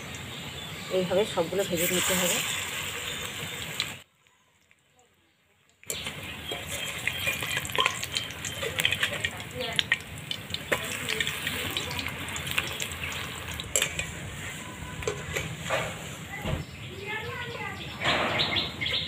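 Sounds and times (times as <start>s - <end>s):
fritters sizzling in hot oil: 0.0s - 16.7s.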